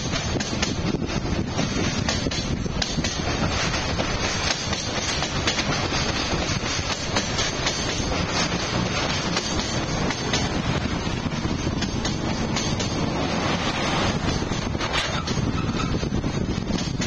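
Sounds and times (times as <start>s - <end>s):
train wheels rumbling: 0.0s - 17.0s
wheels clacking over rail joints: 0.0s - 17.0s.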